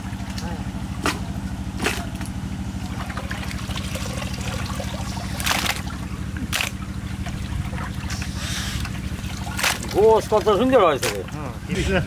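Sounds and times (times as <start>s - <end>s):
water splashes: 0.0s - 11.7s
water trickling and sloshing: 0.0s - 11.7s
steady low hum: 0.0s - 12.0s.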